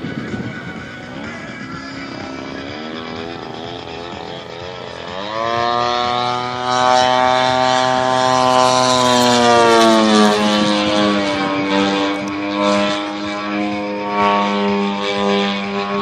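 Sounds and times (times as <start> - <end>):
model aeroplane engine and propeller: 0.0 - 16.0.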